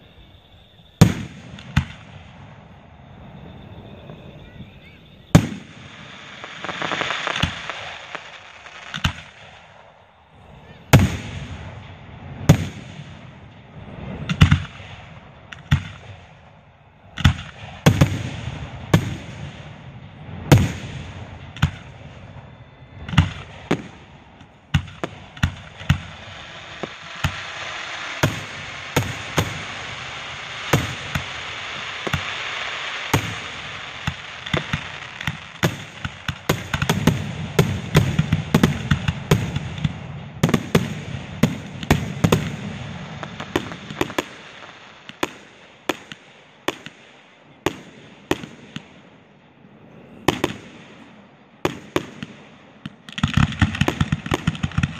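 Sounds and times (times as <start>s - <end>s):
fireworks bangs: 0.0s - 54.9s
steady hiss: 0.0s - 54.9s.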